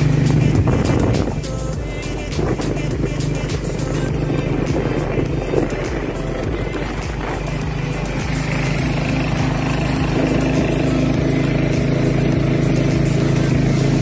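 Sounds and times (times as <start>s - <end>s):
road and wind noise: 0.0s - 14.0s
vehicle engine running: 0.0s - 14.0s.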